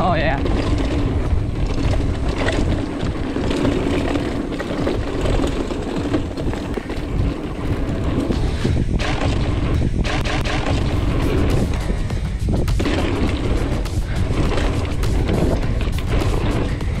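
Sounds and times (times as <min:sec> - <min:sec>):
bike rattling over bumps: 0:00.0 - 0:17.0
tyres rumbling on dirt trail: 0:00.0 - 0:17.0
wind buffeting microphone: 0:00.0 - 0:17.0.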